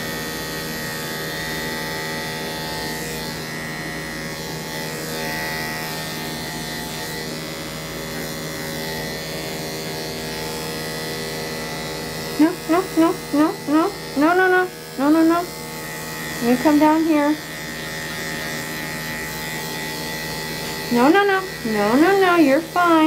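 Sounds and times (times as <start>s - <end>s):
electric clippers humming: 0.0s - 23.0s.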